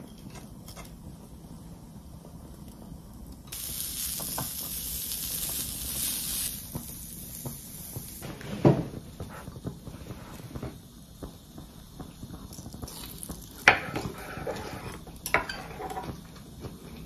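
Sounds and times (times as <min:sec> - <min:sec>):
meat sizzling on grill: 0:00.3 - 0:17.0.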